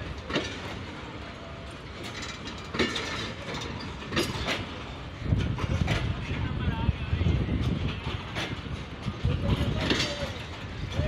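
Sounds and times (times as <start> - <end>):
train coaches rumbling past: 0.0 - 11.0
wheels clacking over rail joints: 0.0 - 11.0.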